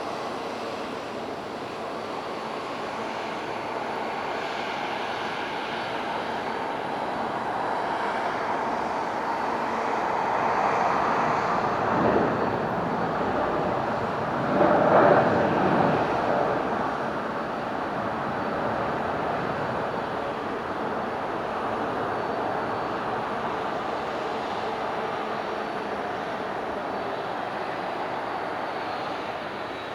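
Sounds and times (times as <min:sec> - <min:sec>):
jet engine rush: 0:00.0 - 0:29.9.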